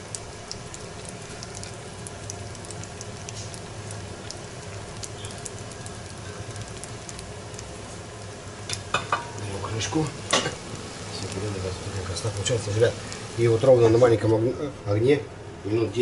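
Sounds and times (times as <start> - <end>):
food sizzling with crackles and pops: 0.0 - 14.5.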